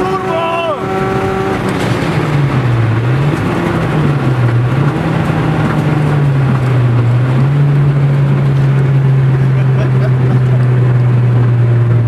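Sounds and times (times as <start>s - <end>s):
turbocharged car engine pulling: 0.0s - 12.0s
tyre and road noise: 0.0s - 12.0s.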